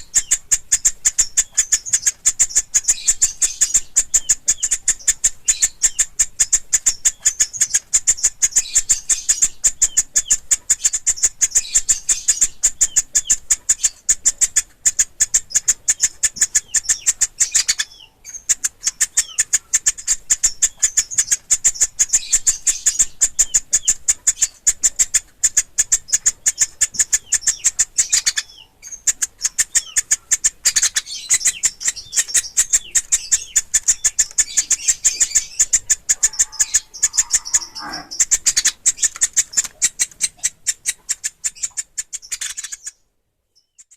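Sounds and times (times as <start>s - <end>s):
woodpecker nestlings calling: 0.0s - 43.9s.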